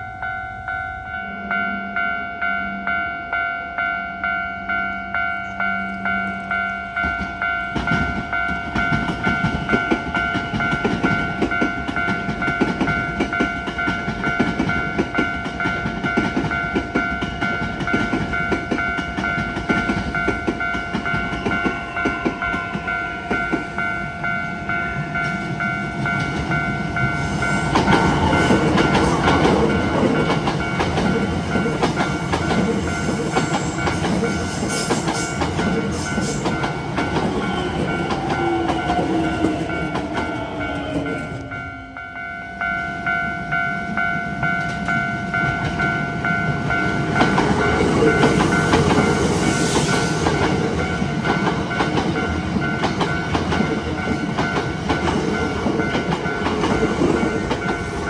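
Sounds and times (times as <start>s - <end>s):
level-crossing alarm bell: 0.0s - 58.0s
train wheels clattering: 7.0s - 41.5s, 44.4s - 58.0s.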